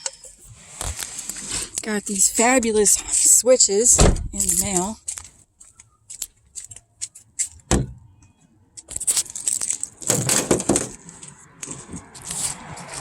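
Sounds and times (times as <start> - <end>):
rustling and scraping: 0.0 - 7.7, 8.8 - 13.0.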